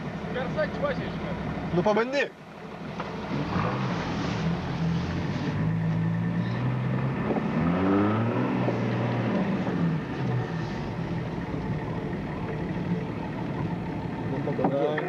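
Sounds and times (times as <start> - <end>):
car engines running: 0.0 - 15.0
engine revving: 2.9 - 15.0.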